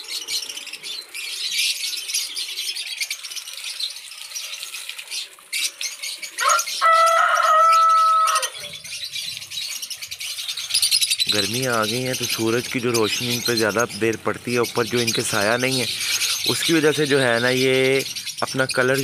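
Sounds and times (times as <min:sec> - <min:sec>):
hose water spraying and splashing: 0:00.0 - 0:19.0.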